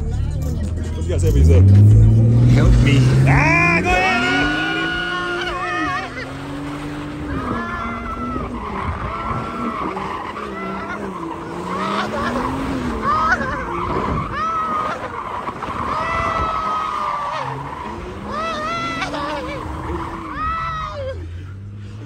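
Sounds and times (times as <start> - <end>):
car engine revving: 0.0 - 22.0
tires squealing: 0.0 - 22.0.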